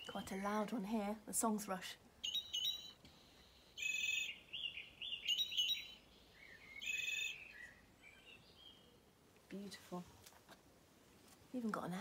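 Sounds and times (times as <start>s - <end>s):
recorded thrush song from speaker: 0.0s - 9.8s.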